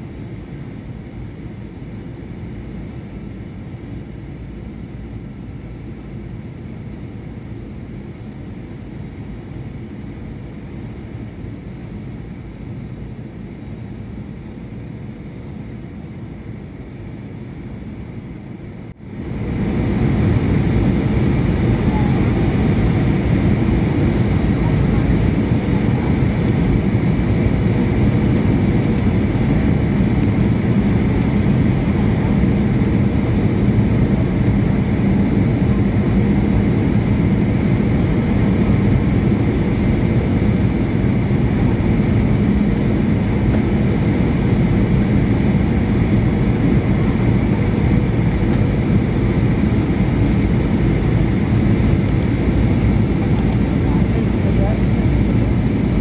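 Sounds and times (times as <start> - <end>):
jet engines humming: 0.0 - 56.0.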